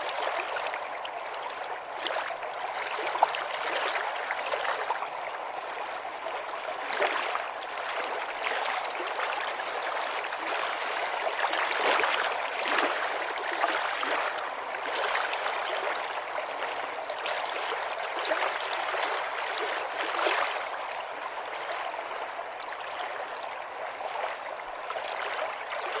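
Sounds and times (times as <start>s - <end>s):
running water gurgling: 0.0s - 26.0s.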